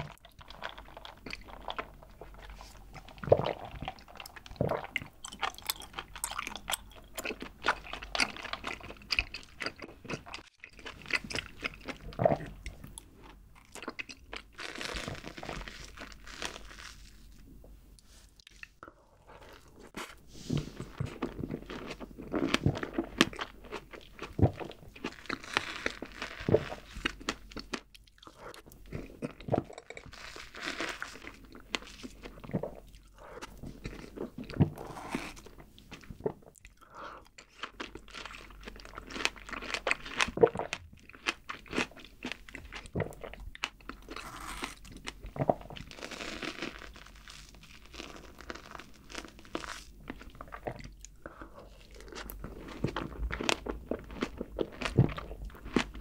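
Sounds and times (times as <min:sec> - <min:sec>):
wet chewing and mouth smacks: 0:00.0 - 0:16.1, 0:17.9 - 0:46.7.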